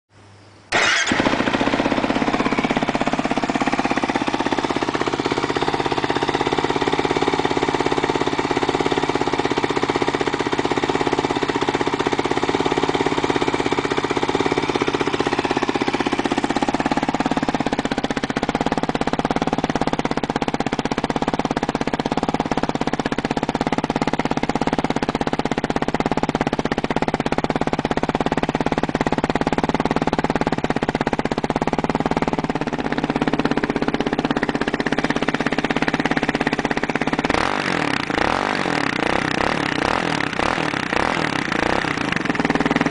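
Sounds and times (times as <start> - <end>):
quad engine idling: 0.7 - 42.9.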